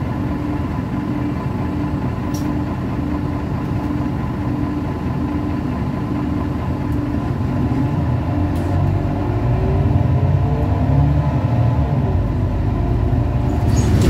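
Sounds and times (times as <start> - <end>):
bus engine idling and accelerating: 0.0 - 14.0.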